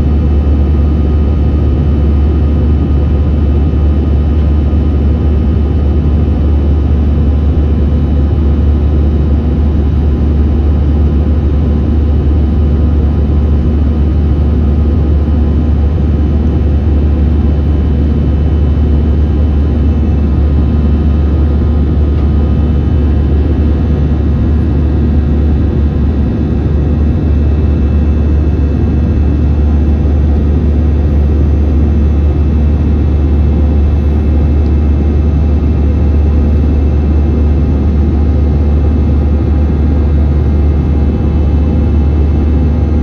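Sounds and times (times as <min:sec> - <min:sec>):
jet engine cabin rumble: 0:00.0 - 0:43.0.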